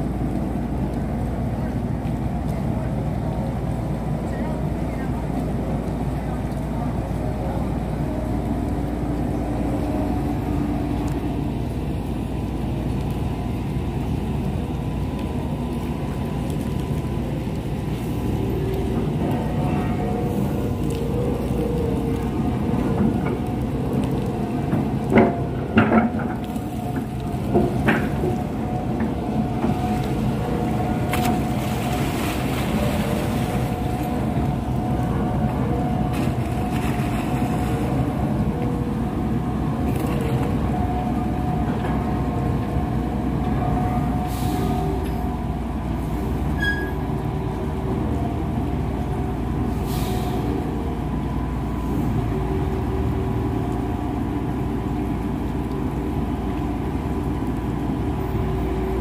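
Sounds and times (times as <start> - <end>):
crane machinery rumbling and whining: 0.0 - 59.0.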